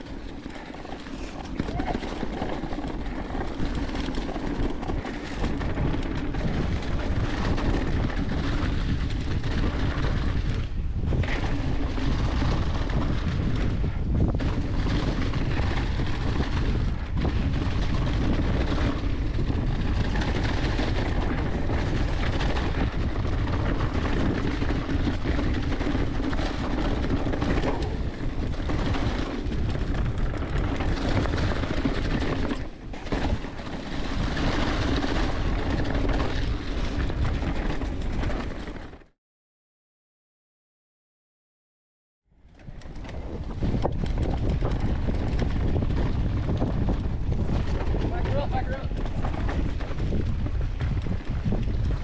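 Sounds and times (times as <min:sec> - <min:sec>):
bike tyres rolling on dirt trail: 0:00.0 - 0:39.1, 0:42.3 - 0:52.0
wind on camera microphone: 0:00.0 - 0:39.1, 0:42.4 - 0:52.0.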